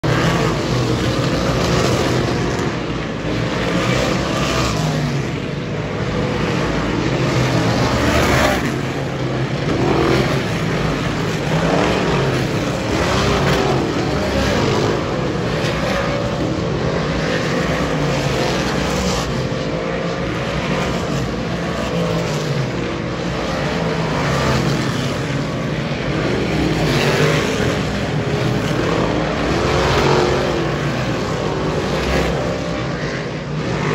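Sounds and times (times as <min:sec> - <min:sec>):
race car engines passing by: 0:00.0 - 0:33.9.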